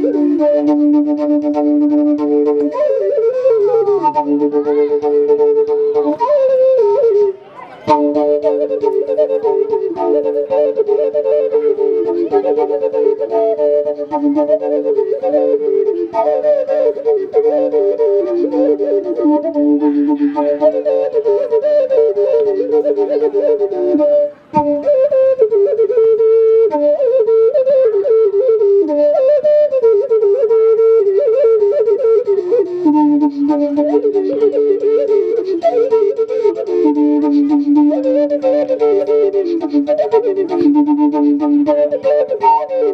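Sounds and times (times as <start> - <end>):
flute-like melody: 0.0 - 42.9
held lower woodwind notes: 0.0 - 42.9.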